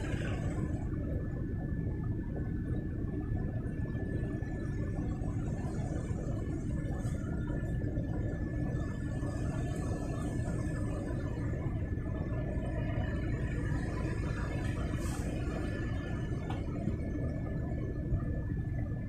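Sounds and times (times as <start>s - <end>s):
car cabin low rumble: 0.0s - 19.0s
faint high whine: 0.0s - 19.0s.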